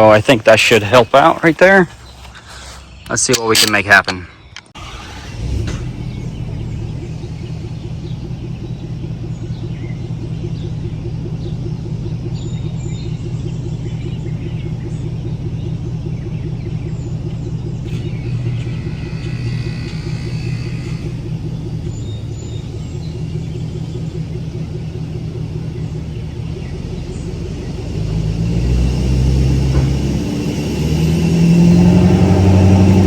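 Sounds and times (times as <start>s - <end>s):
heavy equipment engine under load: 0.0s - 33.0s.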